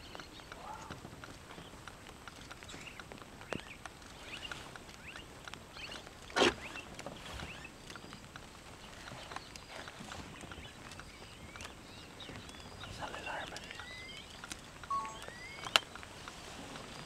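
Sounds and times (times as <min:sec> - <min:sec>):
faint chirping calls: 0:00.0 - 0:17.0
small clicks: 0:00.0 - 0:17.0.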